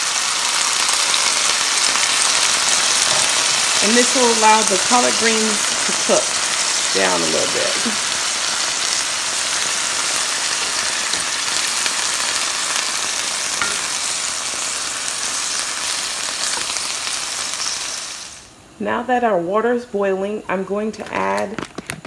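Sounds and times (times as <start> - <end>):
vegetables sizzling in a pan: 0.0 - 18.6.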